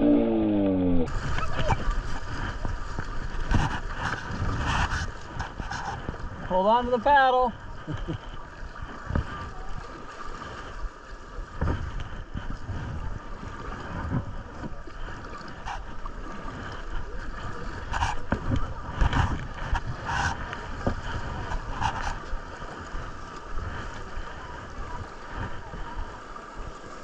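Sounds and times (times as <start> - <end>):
river water rushing: 0.0 - 27.0
short splashes: 0.0 - 27.0
wind buffeting microphone: 1.0 - 27.0.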